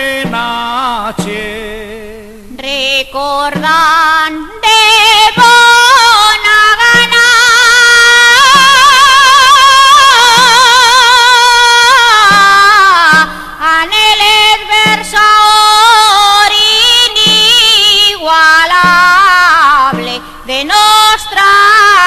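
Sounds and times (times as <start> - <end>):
high voice singing with vibrato: 0.0 - 22.0.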